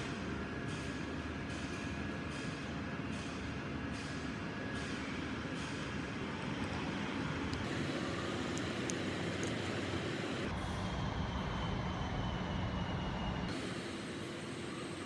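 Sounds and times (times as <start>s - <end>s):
vehicle mechanical noise: 0.0s - 15.0s.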